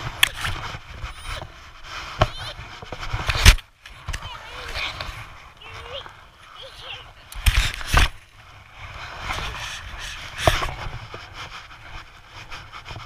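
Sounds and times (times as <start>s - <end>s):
low rumbling and rustling: 0.0s - 13.0s.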